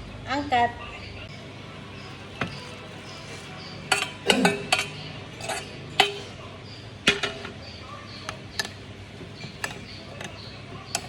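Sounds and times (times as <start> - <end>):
metal utensils clinking on dishes: 1.3 - 11.0.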